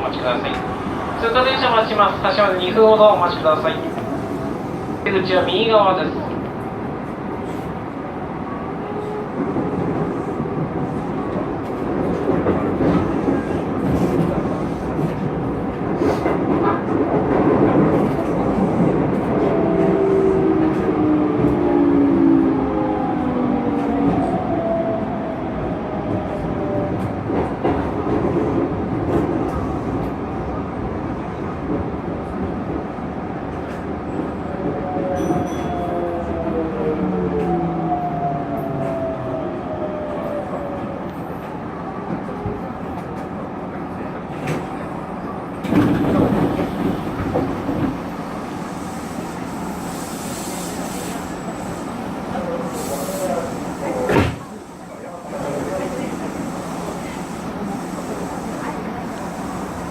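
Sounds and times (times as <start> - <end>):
electric train rumbling on rails: 0.0 - 59.9.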